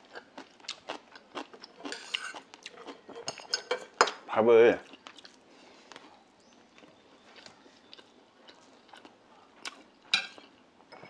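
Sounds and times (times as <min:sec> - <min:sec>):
person chewing food: 0:00.0 - 0:03.5, 0:04.8 - 0:10.9.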